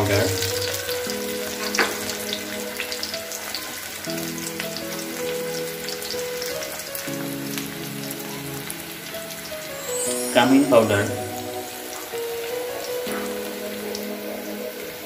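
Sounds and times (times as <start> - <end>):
onions sizzling in oil: 0.0 - 15.0
soft background music chords: 0.0 - 15.0.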